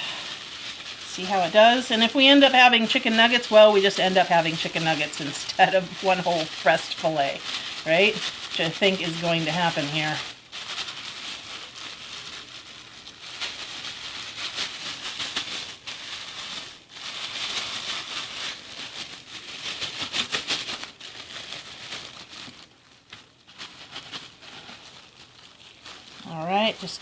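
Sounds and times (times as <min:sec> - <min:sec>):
crushed crackers crackling: 0:00.0 - 0:27.0
plastic packaging crinkling: 0:00.0 - 0:27.0.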